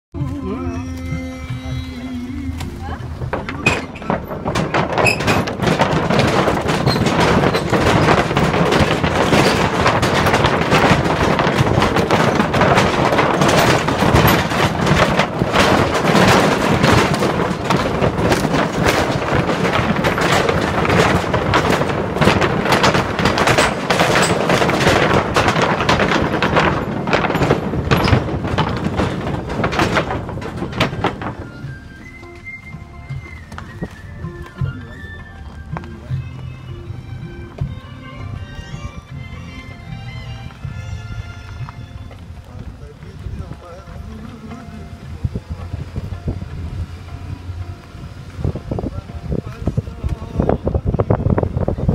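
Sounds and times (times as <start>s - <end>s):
wooden planks clattering under tyres: 2.6s - 51.9s.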